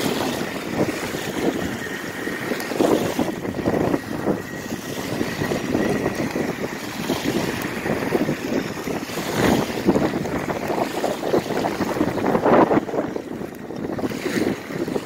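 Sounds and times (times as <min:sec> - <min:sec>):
rc boat motor whining: 0:00.0 - 0:15.0
small waves: 0:00.0 - 0:15.0
wind noise on microphone: 0:00.0 - 0:15.0.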